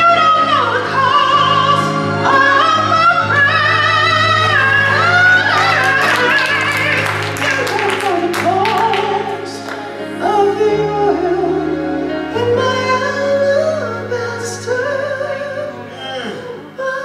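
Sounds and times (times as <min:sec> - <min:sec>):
low accompaniment chords: 0:00.0 - 0:17.0
woman singing gospel solo: 0:00.0 - 0:17.0.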